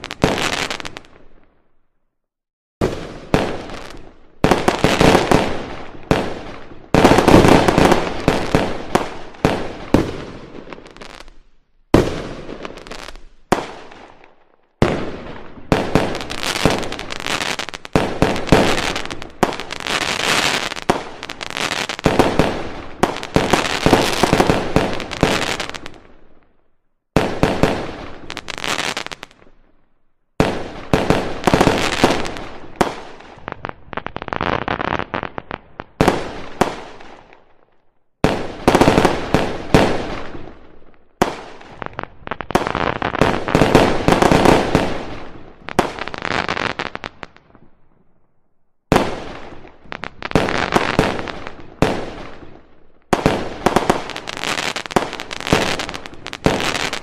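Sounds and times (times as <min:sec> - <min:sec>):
fireworks bangs and crackling: 0:00.0 - 0:01.6, 0:02.8 - 0:26.5, 0:27.1 - 0:48.2, 0:48.8 - 0:57.0.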